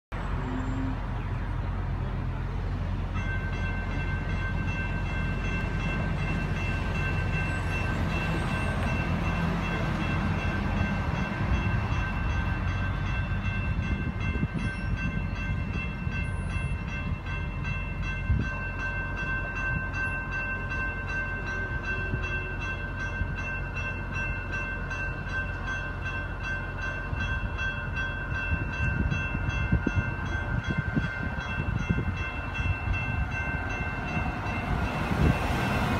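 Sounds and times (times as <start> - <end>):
electronic crossing bells ringing: 3.1 - 35.9.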